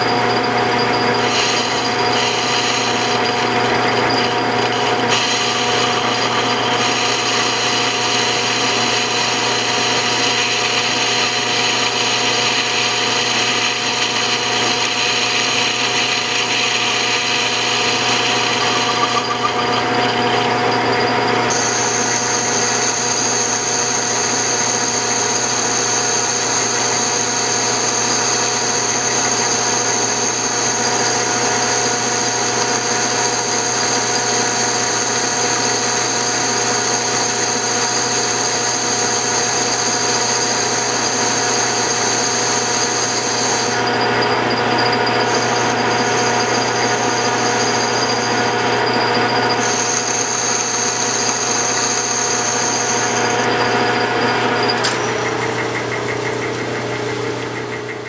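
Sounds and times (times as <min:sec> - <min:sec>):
high steady whistle: 0:00.0 - 0:55.4
tool cutting metal: 0:00.0 - 0:57.9
metal lathe whine: 0:00.0 - 0:58.0.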